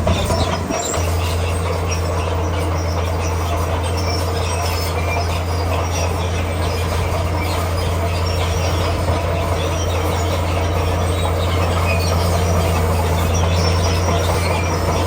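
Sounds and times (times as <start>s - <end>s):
bulldozer diesel drone: 0.0s - 15.0s
steel tracks squeaking and clanking: 0.0s - 15.0s.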